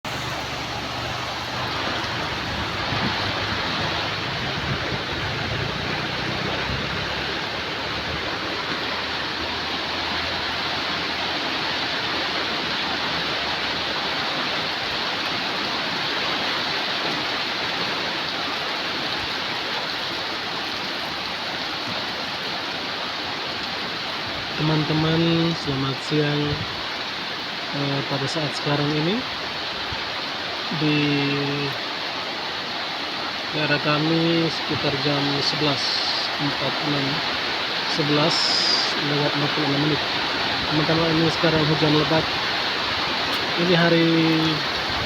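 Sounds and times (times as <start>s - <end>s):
heavy rain in strong wind: 0.0s - 45.0s.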